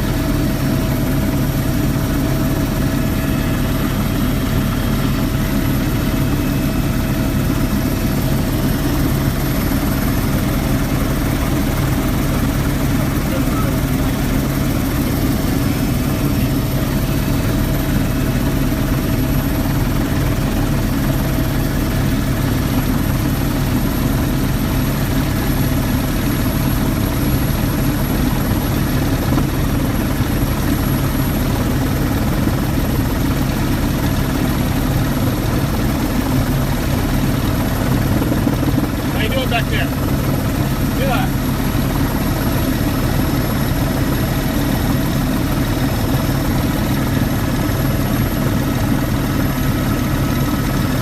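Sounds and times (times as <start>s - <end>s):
helicopter engine and rotor drone: 0.0s - 51.0s.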